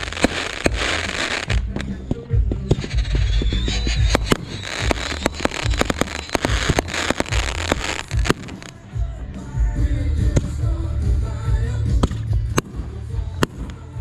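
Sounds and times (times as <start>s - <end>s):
fireworks bangs and crackling: 0.0s - 14.0s
low fireworks booms: 0.0s - 14.0s.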